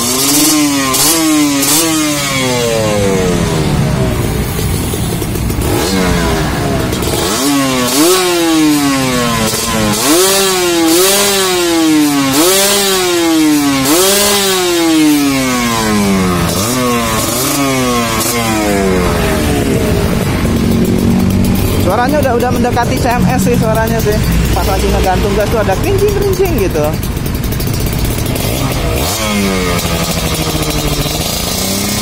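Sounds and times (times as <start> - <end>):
two-stroke engine revving: 0.0 - 32.0.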